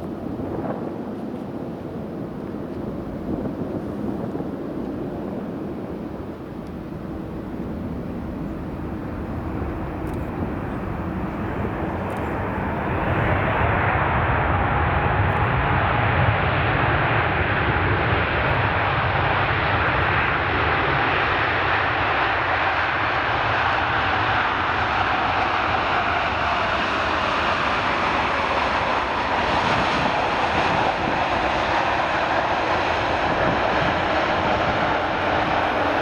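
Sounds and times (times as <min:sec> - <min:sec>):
jet airliner engines: 0:00.0 - 0:36.0.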